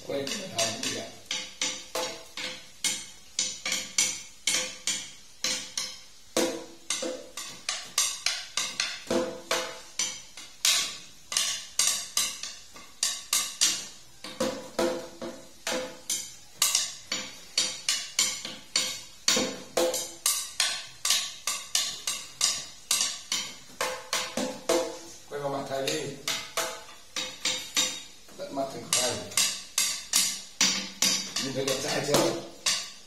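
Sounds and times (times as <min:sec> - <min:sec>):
small drum beaten with sticks: 0:00.0 - 0:33.0.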